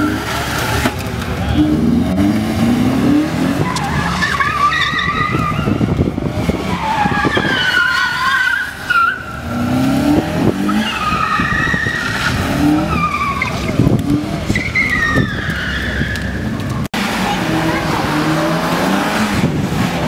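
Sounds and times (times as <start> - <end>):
car engine revving: 0.0 - 20.0
tyres squealing: 0.0 - 20.0.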